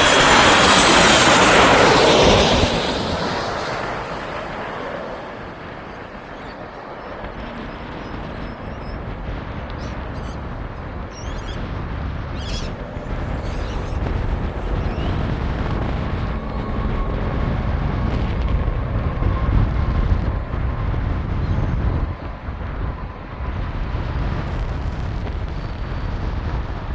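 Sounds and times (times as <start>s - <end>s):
jet engine rumble with whine: 0.0s - 26.9s.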